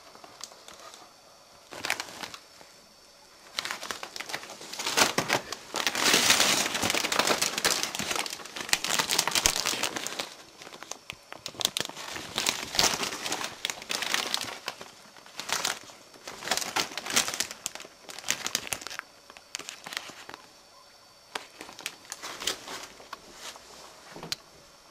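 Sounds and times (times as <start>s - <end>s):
plastic bag crinkling: 0.0s - 2.5s, 3.4s - 20.5s, 21.3s - 24.4s.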